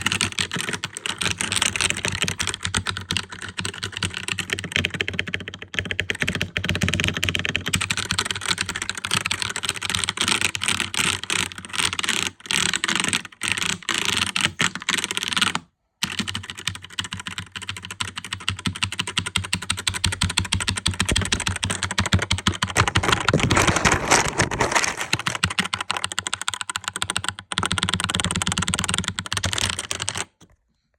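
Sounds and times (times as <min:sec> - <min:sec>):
keyboard clacking keystrokes: 0:00.0 - 0:30.5.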